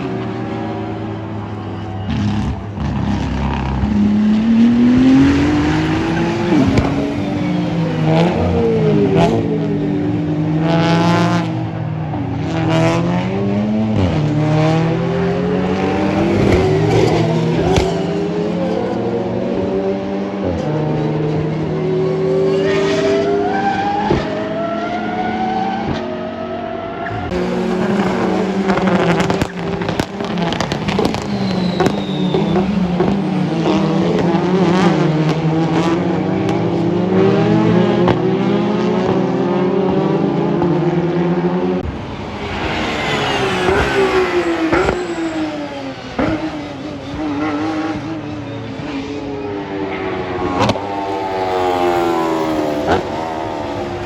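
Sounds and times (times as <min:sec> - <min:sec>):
racing car engines passing: 0:00.0 - 0:54.0.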